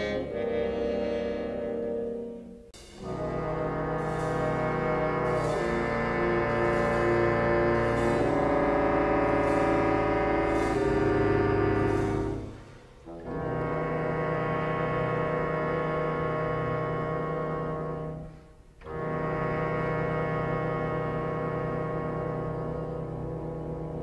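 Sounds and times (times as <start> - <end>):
slow held music chords: 0.0 - 24.0.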